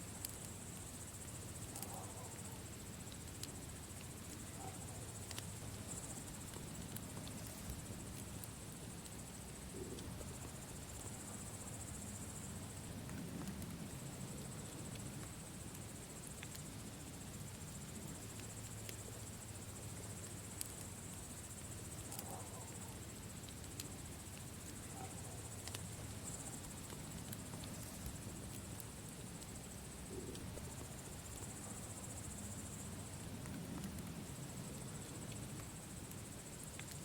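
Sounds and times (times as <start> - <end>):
crickets trilling: 0.0 - 37.0
fire crackling: 0.1 - 37.0.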